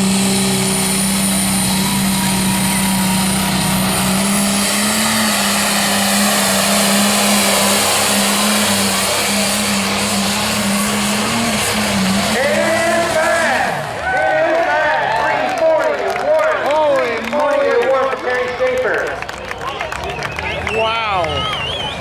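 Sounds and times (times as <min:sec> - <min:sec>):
tractor engine droning under load: 0:00.0 - 0:15.8, 0:16.4 - 0:22.0.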